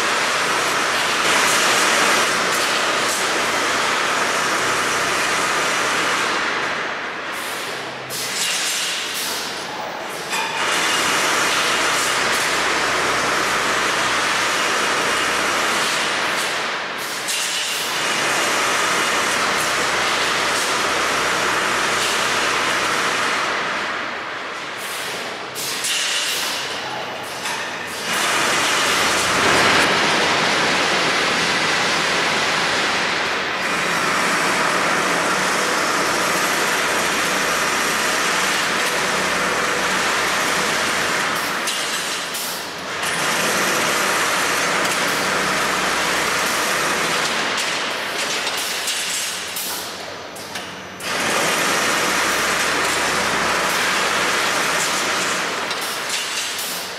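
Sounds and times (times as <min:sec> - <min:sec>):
rebar processing machine running: 0:00.0 - 0:56.9.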